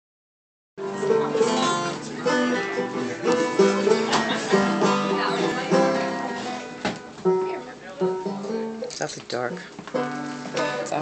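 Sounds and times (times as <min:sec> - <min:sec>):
guitar and banjo picking: 0:00.8 - 0:11.0.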